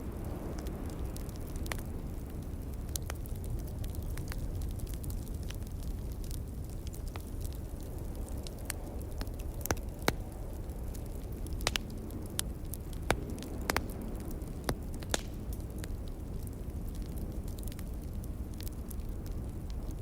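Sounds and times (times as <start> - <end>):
low wind rumble: 0.0 - 20.0
wood fire crackling and popping: 0.0 - 20.0.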